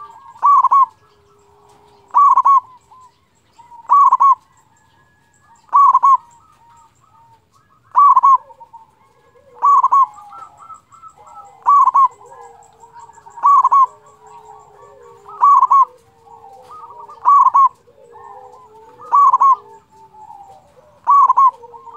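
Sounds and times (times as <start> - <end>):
dove cooing: 0.0 - 21.9
fainter lower bird calls: 0.0 - 21.9.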